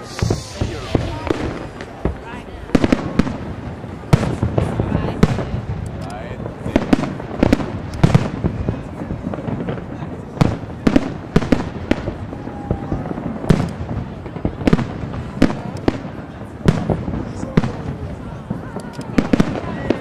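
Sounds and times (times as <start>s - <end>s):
firework shells bursting with bangs: 0.0s - 19.8s.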